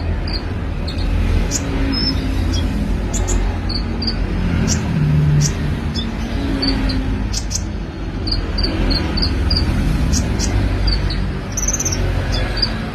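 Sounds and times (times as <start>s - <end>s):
sunbird chirping: 0.0s - 12.9s.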